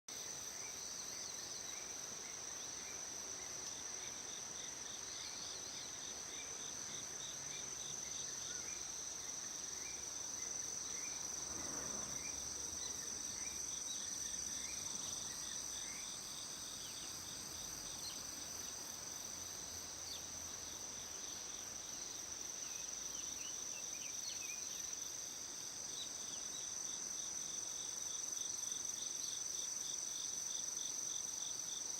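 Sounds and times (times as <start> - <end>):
cricket chirps: 0.1 - 31.9
crickets trilling: 0.4 - 31.9.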